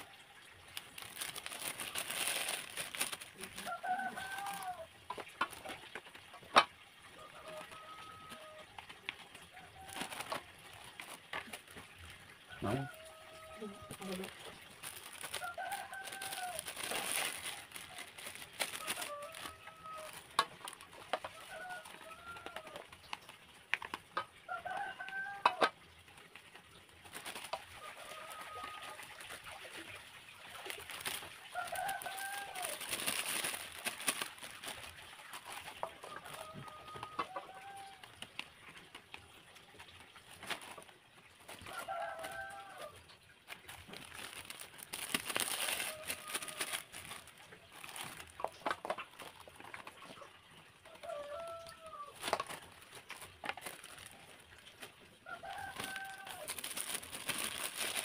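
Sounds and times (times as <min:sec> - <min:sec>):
hands handling plastic packing: 0:00.0 - 0:25.7, 0:27.0 - 0:58.0
chickens clucking and squawking: 0:01.0 - 0:23.4, 0:24.1 - 0:38.9, 0:39.6 - 0:58.0.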